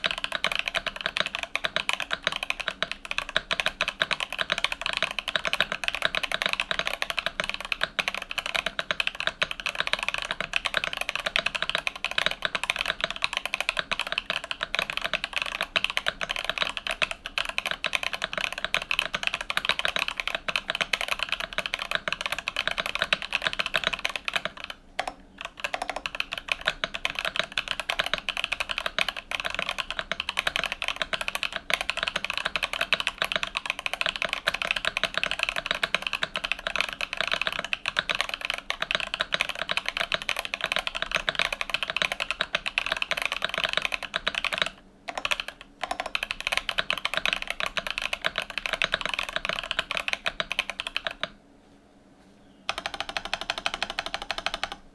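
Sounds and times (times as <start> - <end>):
fast typing on mechanical keyboard: 0.0 - 51.4, 52.7 - 54.9.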